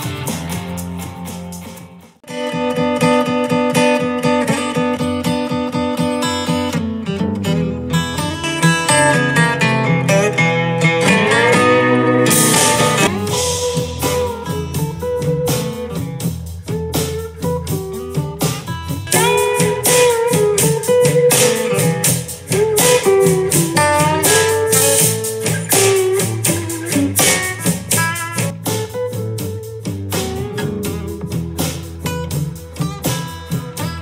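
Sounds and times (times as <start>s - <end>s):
blues guitar music from speaker: 0.0s - 34.0s.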